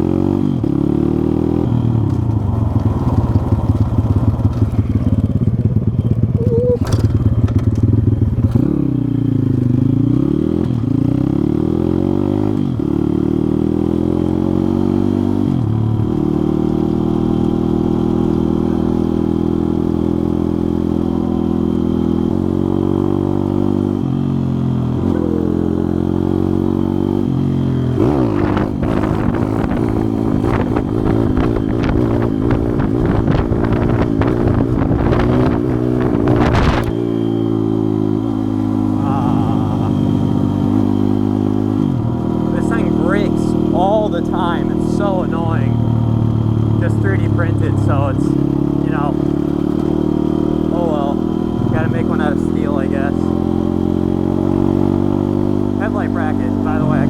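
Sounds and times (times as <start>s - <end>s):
motorbike engine revving and shifting: 0.0s - 57.0s.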